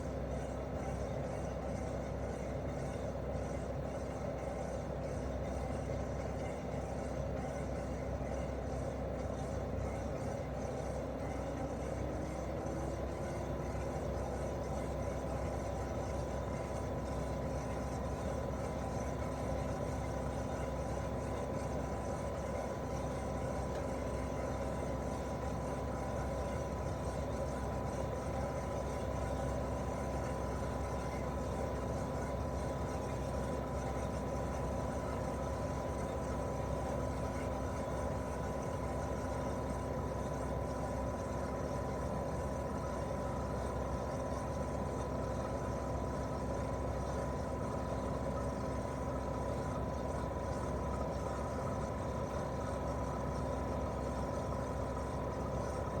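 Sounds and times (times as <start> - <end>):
air conditioner compressor hum: 0.0 - 1.3, 2.1 - 56.0.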